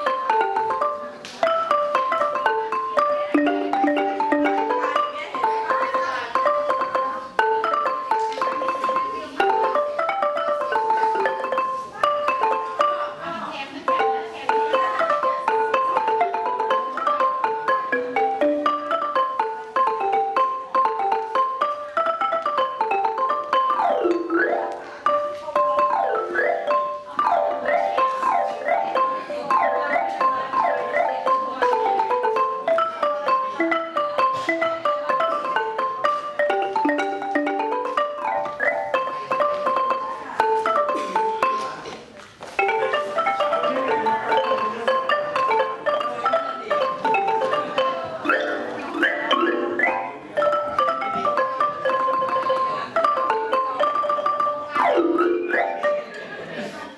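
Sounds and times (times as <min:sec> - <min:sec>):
wooden xylophone melody: 0:00.0 - 0:56.9.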